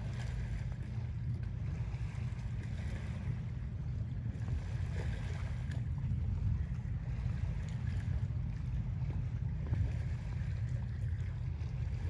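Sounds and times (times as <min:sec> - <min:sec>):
rippling water hiss: 0:00.0 - 0:12.0
steady low rumble: 0:00.0 - 0:12.0.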